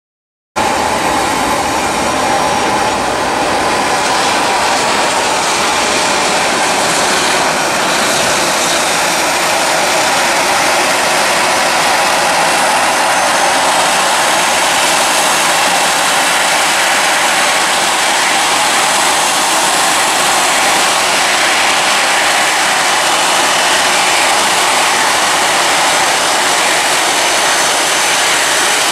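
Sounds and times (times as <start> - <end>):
faint jet whine: 0.6 - 28.9
jet engine rushing noise: 0.6 - 28.9.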